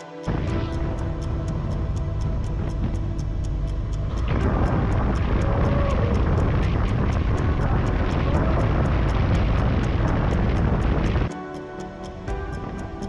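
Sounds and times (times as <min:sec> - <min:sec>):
wind rushing over microphone: 0:00.0 - 0:11.3
road noise: 0:00.3 - 0:11.3.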